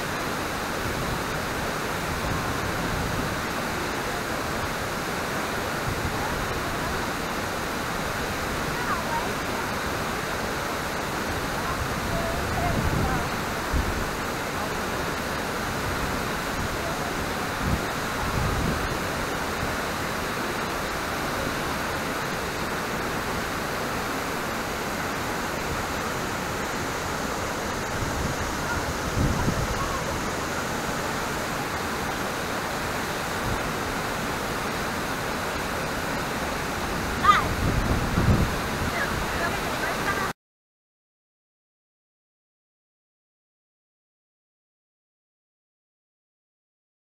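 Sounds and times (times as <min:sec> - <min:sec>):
waterfall rushing: 0:00.0 - 0:40.4.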